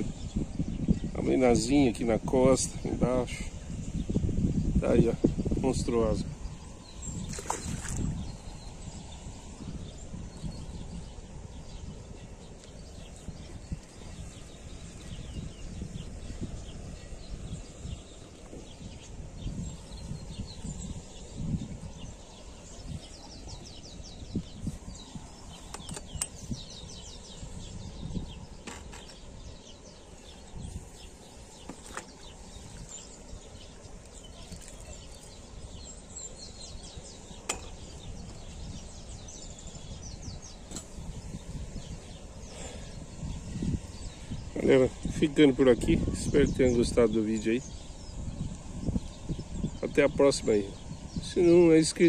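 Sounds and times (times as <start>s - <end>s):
wind buffeting microphone: 0.0s - 52.0s
faint bird chirps: 3.3s - 52.0s.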